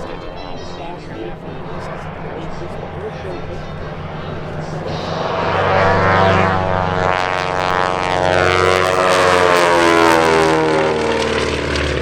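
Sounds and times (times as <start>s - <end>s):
propeller planes droning past: 0.0s - 12.0s.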